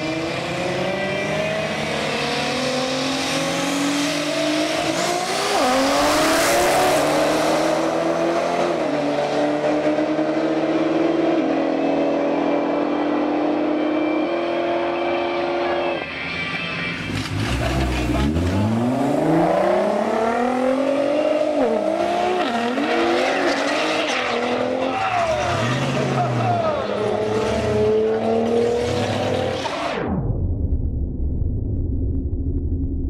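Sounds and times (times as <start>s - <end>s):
cars accelerating hard: 0.0s - 30.1s.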